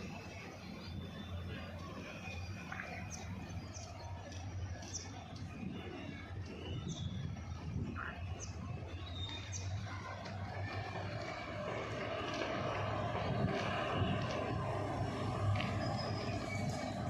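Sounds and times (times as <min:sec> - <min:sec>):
birds chirping: 0:00.0 - 0:17.0
diesel locomotive engine drone: 0:00.0 - 0:17.0.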